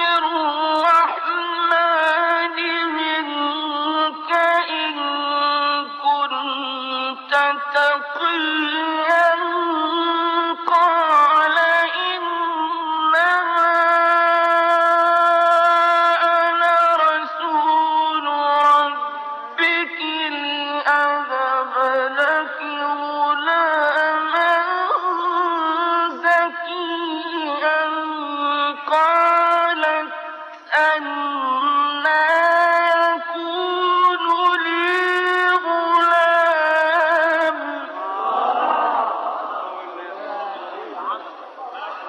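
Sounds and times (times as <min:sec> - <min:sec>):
man reciting in ornamented chant: 0:00.0 - 0:38.0.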